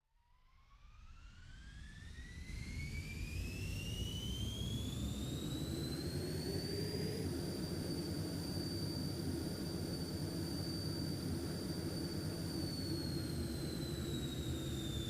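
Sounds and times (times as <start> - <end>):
jet engines spooling up: 1.4 - 15.0.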